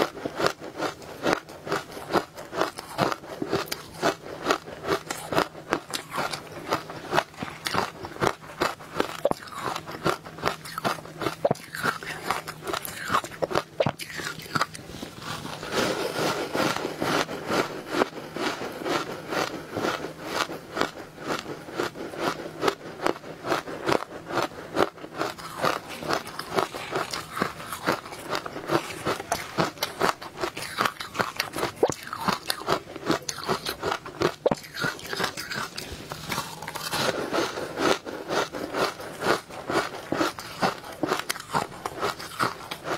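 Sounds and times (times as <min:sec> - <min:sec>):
crunching frozen ice: 0:00.0 - 0:42.9.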